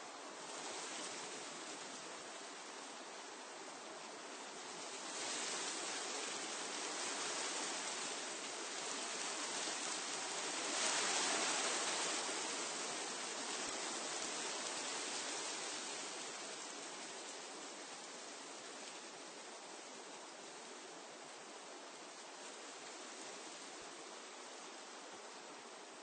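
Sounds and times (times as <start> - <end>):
wind rustling leaves: 0.0 - 26.0.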